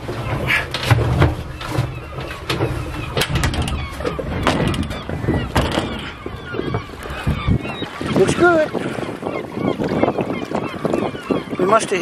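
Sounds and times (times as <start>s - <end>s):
knocks and clunks on boat hull: 0.0s - 11.6s.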